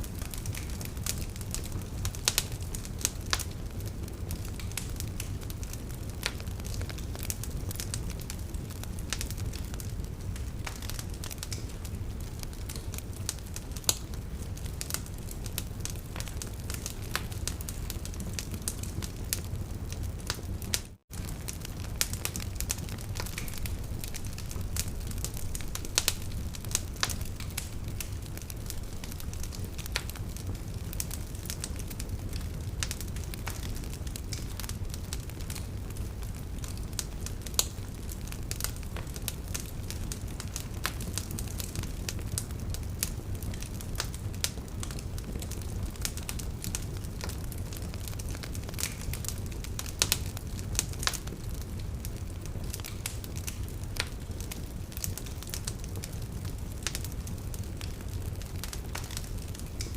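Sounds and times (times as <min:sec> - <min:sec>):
open fire crackling and popping: 0:00.0 - 0:59.9.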